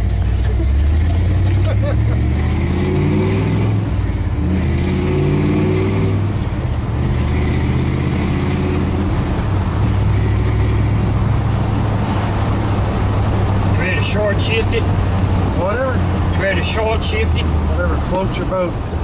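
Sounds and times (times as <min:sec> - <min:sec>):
gear change: 0:00.0 - 0:18.8
truck engine accelerating: 0:00.0 - 0:19.0.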